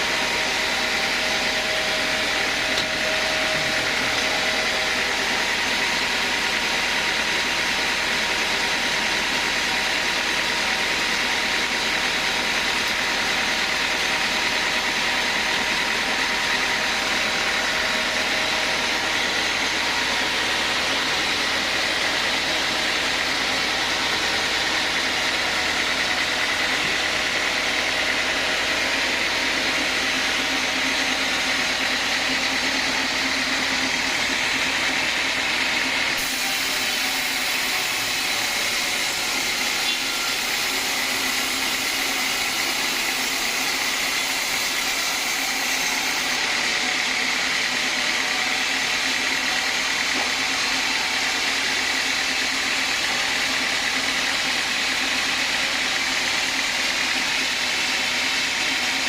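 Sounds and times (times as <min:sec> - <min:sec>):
band saw running: 0:00.0 - 0:59.0.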